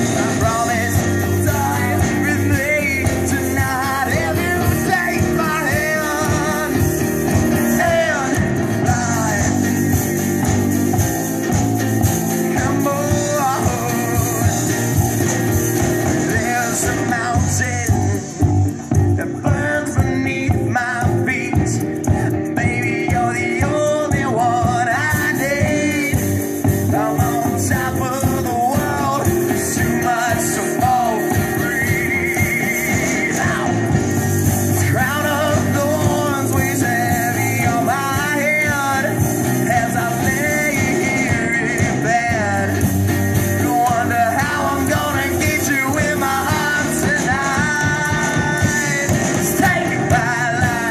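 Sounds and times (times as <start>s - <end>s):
rock band playing live: 0.0s - 50.9s
singer with vibrato: 0.0s - 50.9s.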